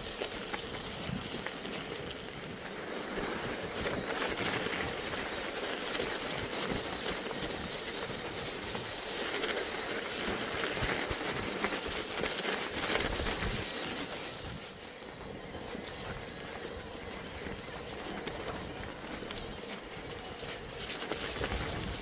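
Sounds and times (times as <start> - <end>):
bike rattles and knocks: 0.0 - 22.0
tyres crunching through snow: 0.0 - 22.0
wind on microphone: 0.0 - 22.0.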